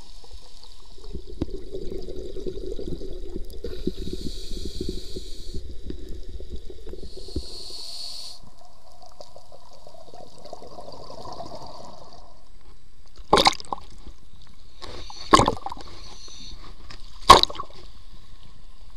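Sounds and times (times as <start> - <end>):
underwater bubbling and wash: 0.0 - 12.5, 13.3 - 16.4.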